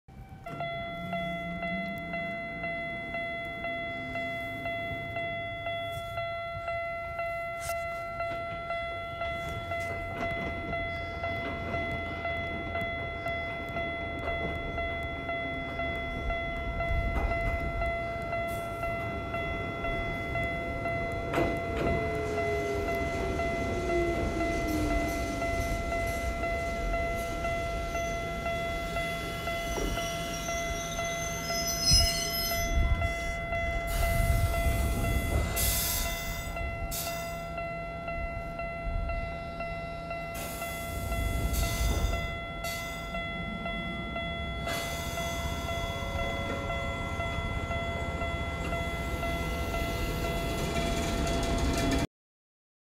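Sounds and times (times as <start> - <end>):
level crossing warning bell: 0.1 - 52.1
train passing rumble: 0.1 - 52.1.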